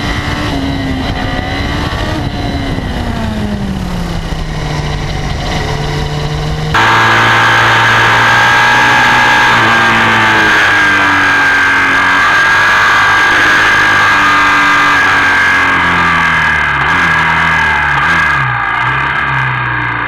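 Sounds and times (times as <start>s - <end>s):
rushing wind noise: 0.0s - 17.3s
motorcycle engine running: 0.0s - 20.0s.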